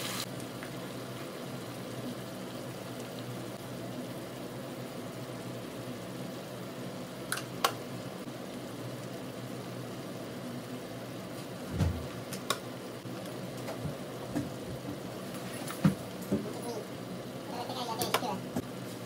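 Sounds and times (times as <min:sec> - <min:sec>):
food simmering in a wok: 0:00.0 - 0:19.0.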